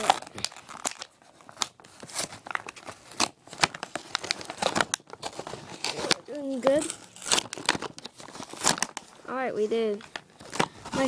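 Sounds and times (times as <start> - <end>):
package tearing: 0.0 - 9.1
plastic packaging crinkling: 0.0 - 11.0.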